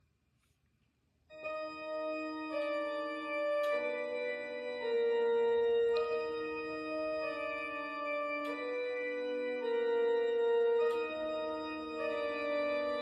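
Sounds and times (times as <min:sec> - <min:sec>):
organ-like keyboard chords: 0:01.3 - 0:13.0.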